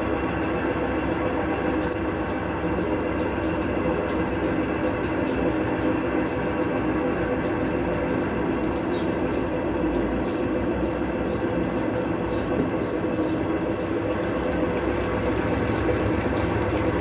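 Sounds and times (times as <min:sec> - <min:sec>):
washing machine rumbling: 0:00.0 - 0:17.0.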